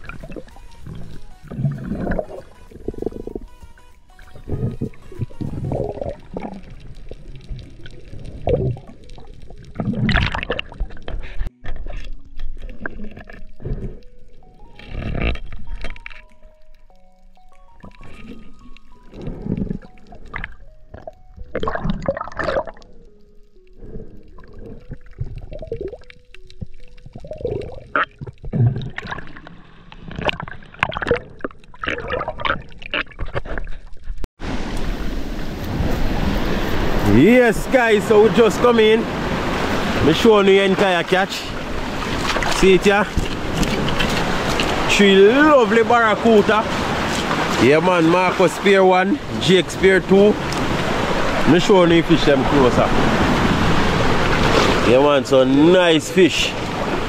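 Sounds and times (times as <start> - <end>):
water sloshing and gurgling: 0.0 - 57.0.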